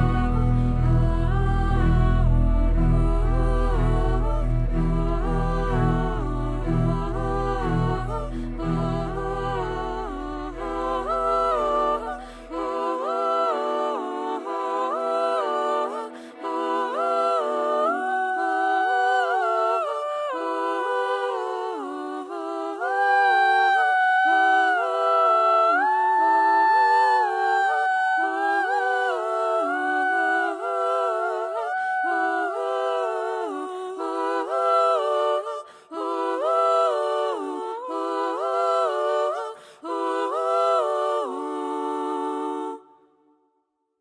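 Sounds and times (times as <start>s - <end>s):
voices singing a lullaby: 0.0s - 43.2s.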